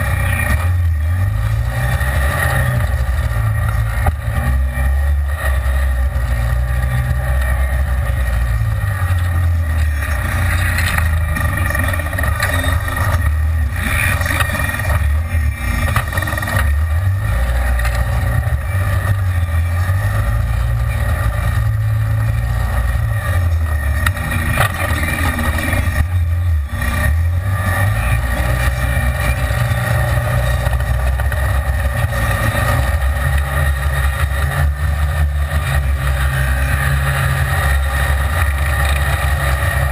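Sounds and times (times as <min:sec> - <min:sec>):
off-road vehicle engine droning: 0:00.0 - 0:39.9
rattle: 0:00.0 - 0:39.9.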